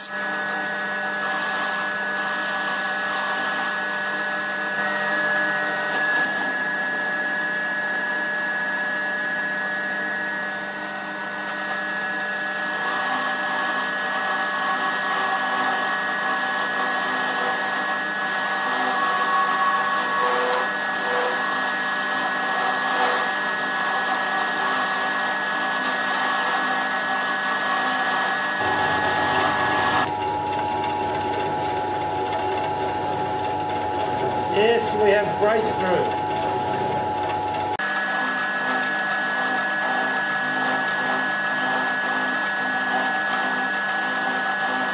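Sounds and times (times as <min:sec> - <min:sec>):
end mill cutting metal: 0:00.0 - 0:44.9
milling machine whine: 0:00.0 - 0:44.9.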